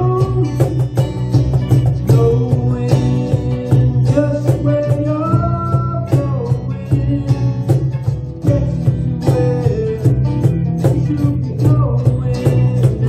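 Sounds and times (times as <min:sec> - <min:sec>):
man singing: 0:00.0 - 0:01.2, 0:01.8 - 0:13.0
cajon beat: 0:00.0 - 0:13.0
strummed guitars: 0:00.0 - 0:13.0.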